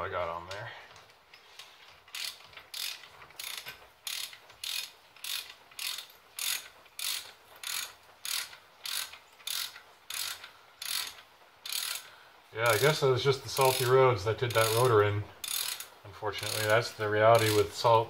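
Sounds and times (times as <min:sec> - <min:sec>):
ratchet wrench clicking: 0:01.4 - 0:18.0.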